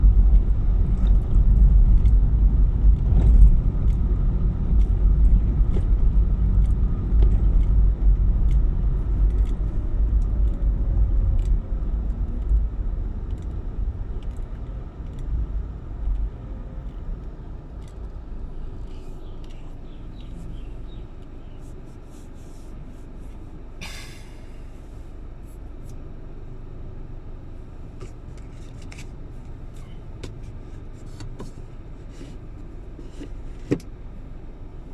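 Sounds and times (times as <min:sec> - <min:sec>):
road vehicle rumble: 0:00.0 - 0:34.9.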